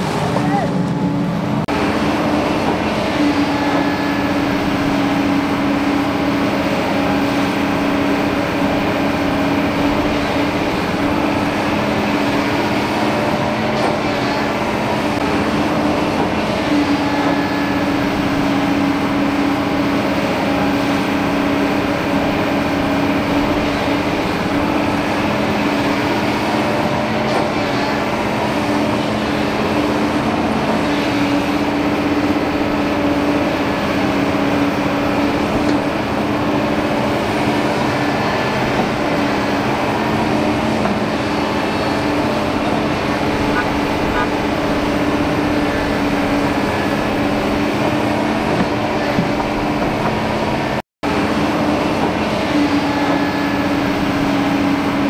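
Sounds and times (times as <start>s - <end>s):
excavator diesel engines running: 0.0s - 55.0s
excavators digging dirt: 0.0s - 55.0s.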